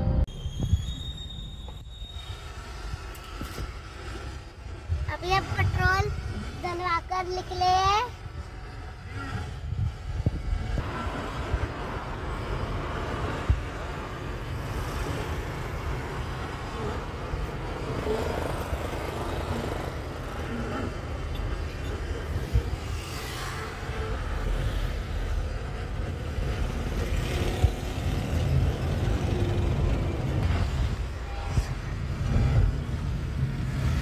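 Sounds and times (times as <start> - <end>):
car road and engine rumble: 2.5 - 34.0.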